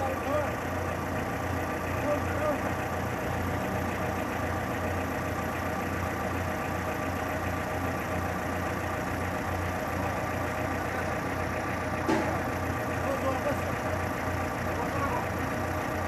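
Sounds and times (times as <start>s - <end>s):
forklift engine idling: 0.0s - 16.0s.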